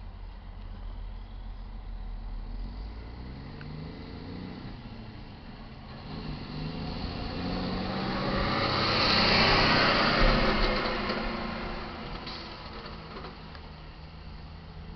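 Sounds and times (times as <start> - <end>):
truck diesel engine accelerating: 0.0 - 14.9
truck tyre noise: 0.0 - 14.9.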